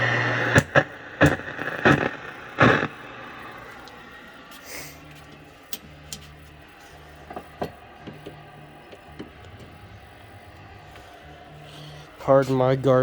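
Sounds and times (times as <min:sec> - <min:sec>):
television speaker low buzz: 0:00.0 - 0:13.0.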